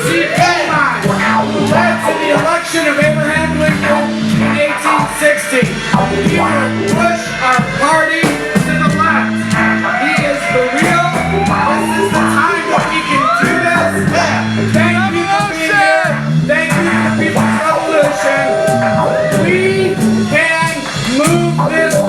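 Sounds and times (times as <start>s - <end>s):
person singing: 0.0s - 22.0s
steady drum beat: 0.0s - 22.0s
walking bass line: 0.0s - 22.0s.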